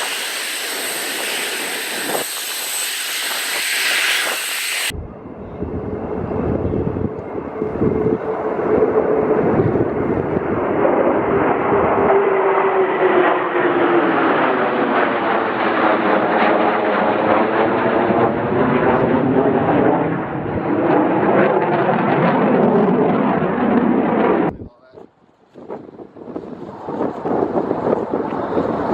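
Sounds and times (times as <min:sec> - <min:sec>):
fighter jet passing by: 0:00.0 - 0:24.6, 0:25.5 - 0:28.9.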